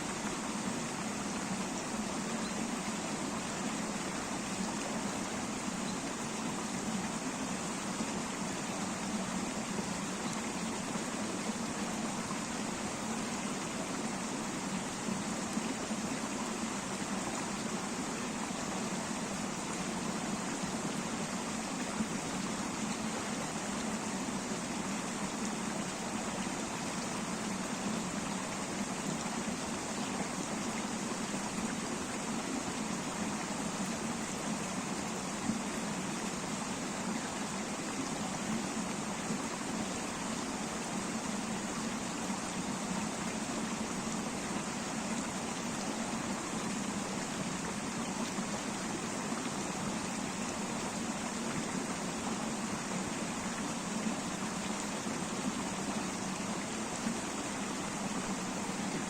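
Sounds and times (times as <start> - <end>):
river running over stones: 0.0 - 59.0.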